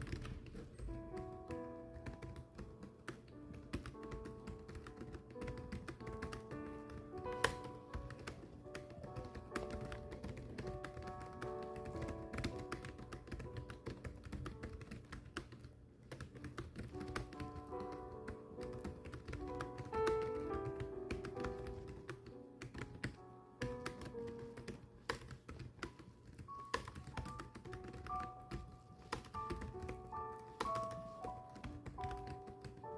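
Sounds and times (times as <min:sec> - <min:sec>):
gentle background music: 0:00.0 - 0:32.9
keyboard typing: 0:00.0 - 0:32.9.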